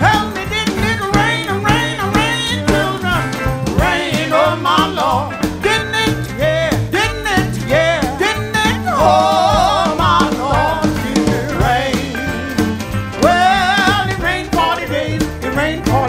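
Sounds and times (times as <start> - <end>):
woman singing: 0.0 - 3.2, 3.8 - 12.5, 13.2 - 16.0
band backing: 0.0 - 16.0.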